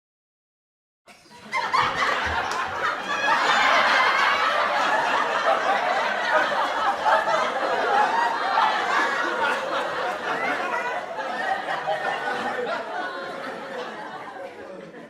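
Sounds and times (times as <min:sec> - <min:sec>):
crowd laughing laugh track: 0:01.1 - 0:15.0.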